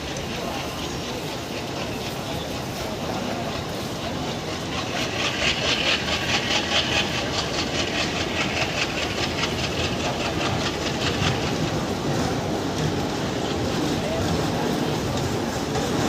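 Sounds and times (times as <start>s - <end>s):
diesel locomotive engine chugging: 0.0s - 16.0s.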